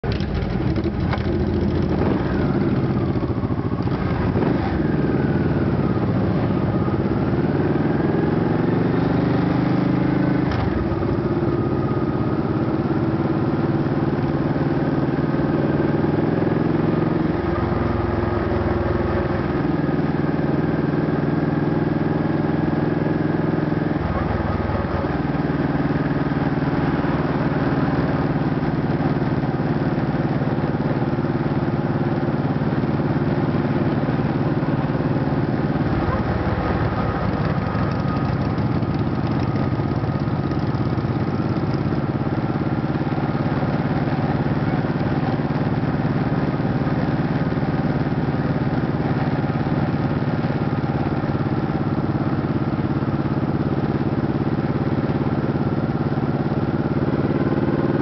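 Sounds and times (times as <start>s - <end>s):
motorcycle engine running: 0.0s - 58.0s
other motorcycles running: 0.0s - 58.0s.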